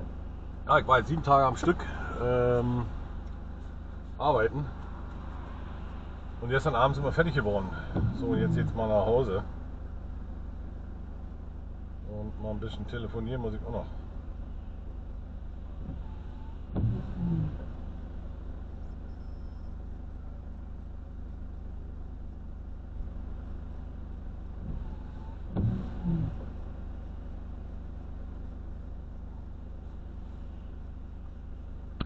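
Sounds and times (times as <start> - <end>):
engine idling hum: 0.0 - 32.0.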